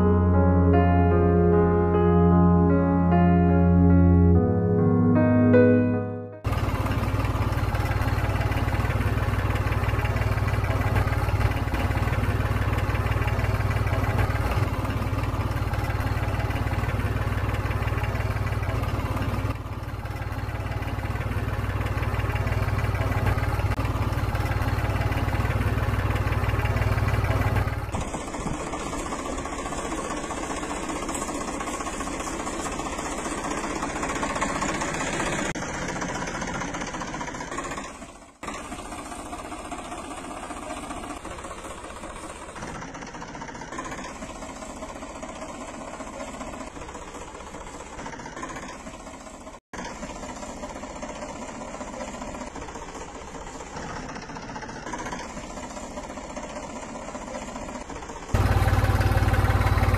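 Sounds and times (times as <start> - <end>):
thin engine sound: 0.0 - 59.9
tractor engine idling: 6.4 - 59.9.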